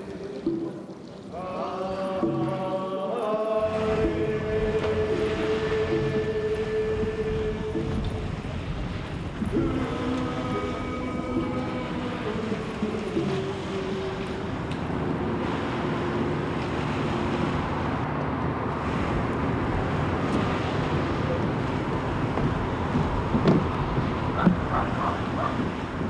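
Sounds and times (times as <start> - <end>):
wind on microphone: 3.5 - 26.0.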